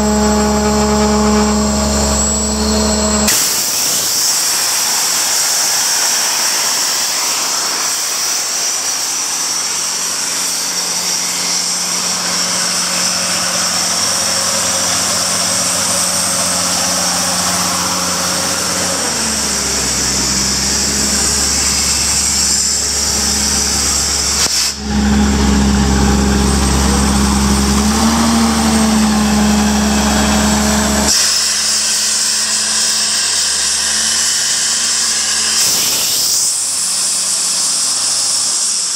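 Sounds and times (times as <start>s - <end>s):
diesel engine drone: 0.0s - 36.8s
high-pitched air rushing: 0.0s - 37.1s.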